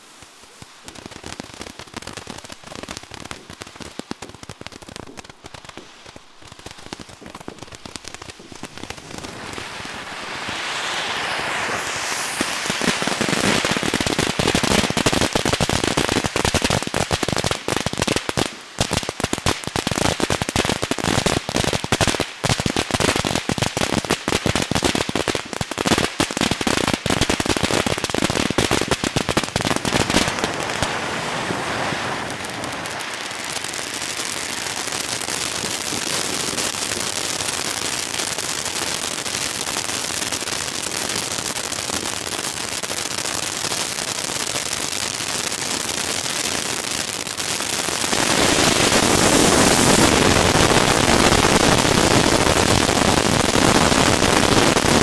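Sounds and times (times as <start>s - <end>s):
firework fountain crackling: 0.0s - 55.0s
hiss of sparks: 0.0s - 55.0s.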